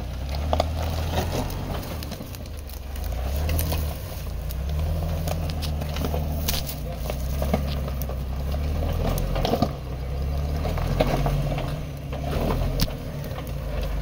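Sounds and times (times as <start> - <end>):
crackles and clicks: 0.0 - 14.0
off-road vehicle engine running: 0.0 - 14.0.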